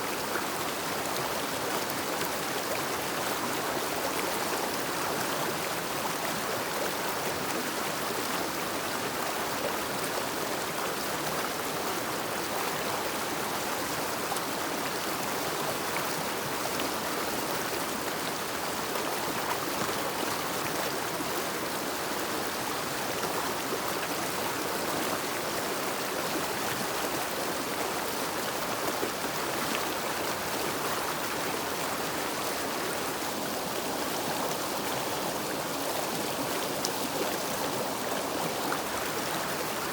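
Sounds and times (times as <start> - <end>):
river water rushing: 0.1 - 39.9.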